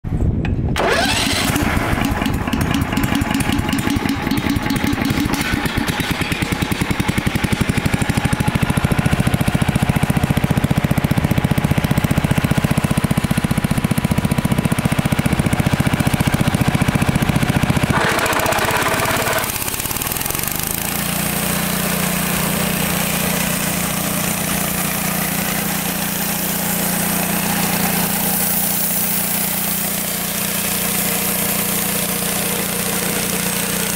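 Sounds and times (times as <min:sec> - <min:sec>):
single-cylinder engine running: 0:00.8 - 0:33.9.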